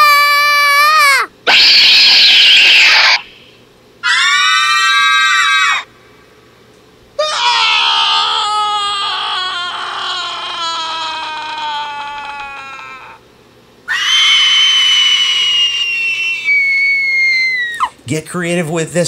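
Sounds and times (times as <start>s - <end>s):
recorded human screams: 0.0s - 5.9s, 7.2s - 13.2s, 13.9s - 18.0s.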